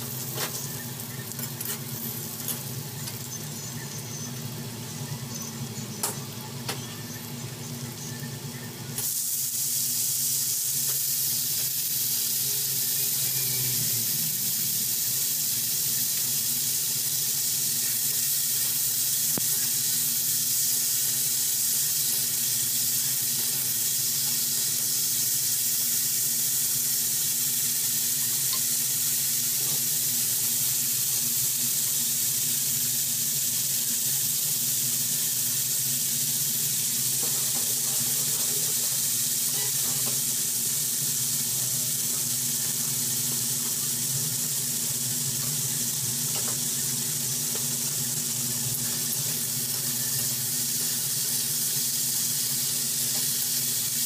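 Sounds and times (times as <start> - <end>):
oil sizzling in a pan: 0.0 - 54.0.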